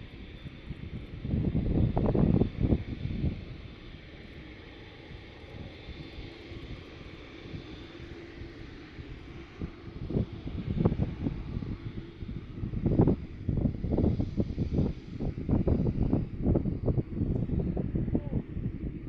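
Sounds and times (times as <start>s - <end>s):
distant jet engines rumbling: 0.0s - 19.0s
wind buffeting microphone: 0.0s - 19.0s.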